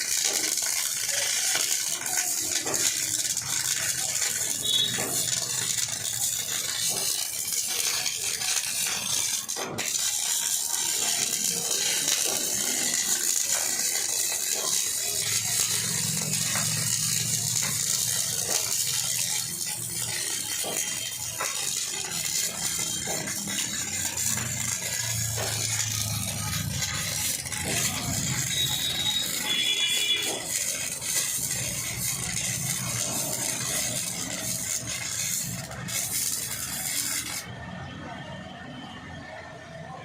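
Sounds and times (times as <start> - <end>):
welding arc crackling and hissing: 0.0 - 38.2.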